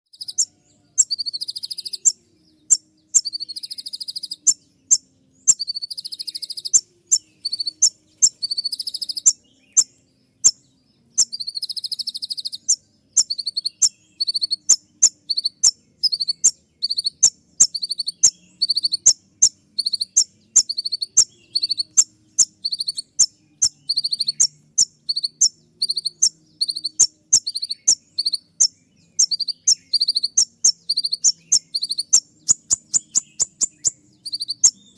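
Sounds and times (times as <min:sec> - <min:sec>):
buzzy bird trills: 0:00.1 - 0:34.9
sunbird sharp piercing calls: 0:00.1 - 0:34.9.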